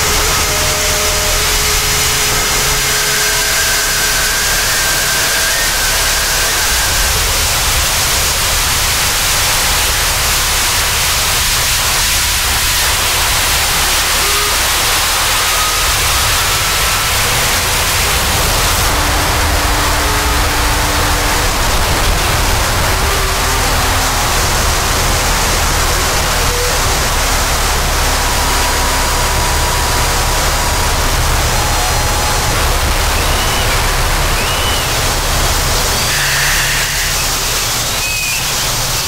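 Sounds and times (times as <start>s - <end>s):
heavy low rumble: 0.0s - 36.0s
static and hiss noise: 0.0s - 39.0s.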